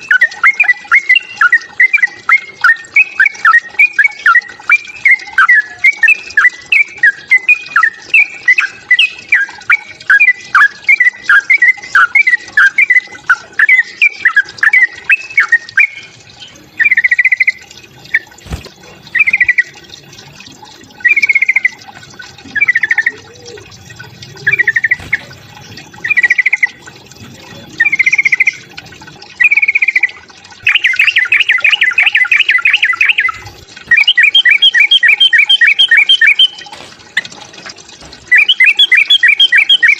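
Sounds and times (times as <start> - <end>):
bulbul chirping and trilling: 0.0 - 39.9.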